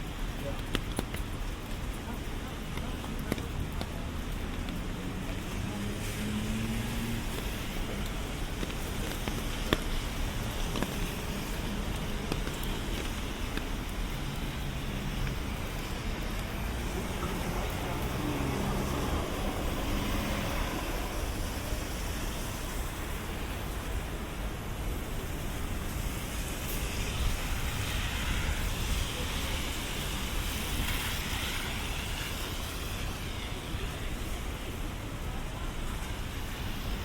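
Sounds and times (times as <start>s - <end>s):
rain: 0.0s - 37.0s
road traffic: 0.0s - 37.0s
wet tyre hiss: 5.1s - 35.3s.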